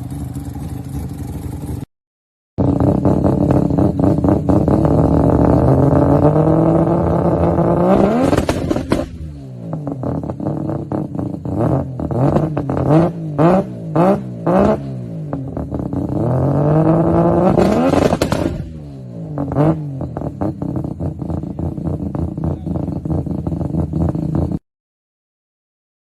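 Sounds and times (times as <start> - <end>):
rotary engine revving: 2.6 - 24.6.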